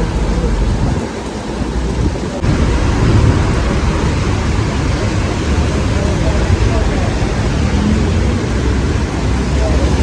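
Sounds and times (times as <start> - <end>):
heavy rain: 0.0 - 10.0
wind buffeting microphone: 0.0 - 10.0.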